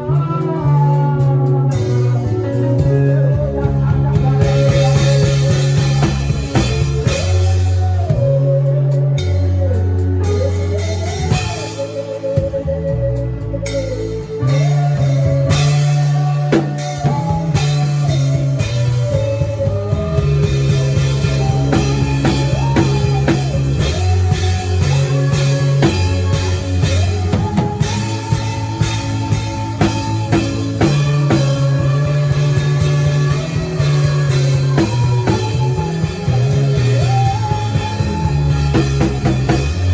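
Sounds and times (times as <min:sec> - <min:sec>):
drum kit playing: 0:00.0 - 0:39.9
recorded song with bass and guitar: 0:00.0 - 0:39.9.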